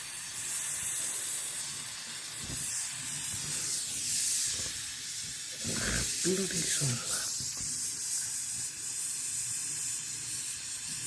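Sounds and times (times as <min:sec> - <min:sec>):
torch hissing: 0:00.0 - 0:11.0.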